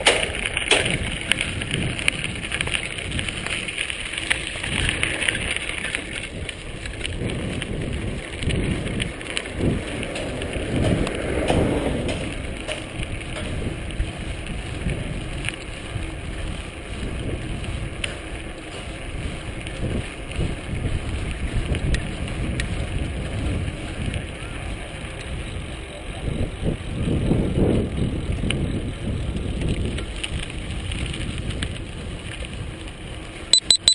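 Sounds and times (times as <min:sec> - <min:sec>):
wind buffeting microphone: 0:00.0 - 0:33.5
bicycle clicks and rattles: 0:00.0 - 0:33.9
tyre and road noise: 0:00.0 - 0:33.9.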